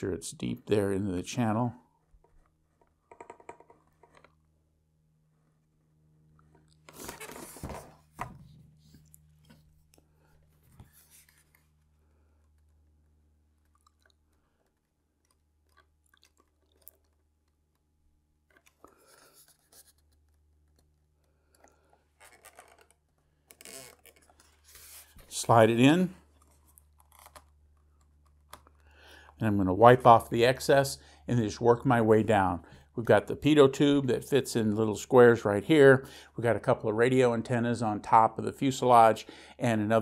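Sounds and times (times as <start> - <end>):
faint steady hum: 3.7 - 40.0.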